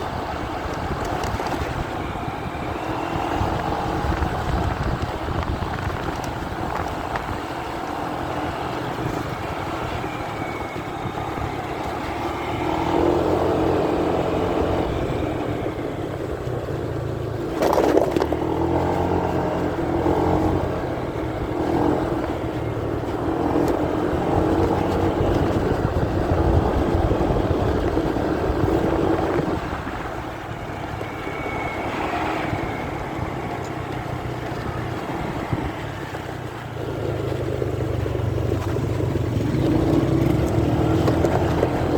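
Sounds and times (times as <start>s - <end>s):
muffled motorcycle engine: 0.0s - 41.9s
wind noise: 0.0s - 41.9s.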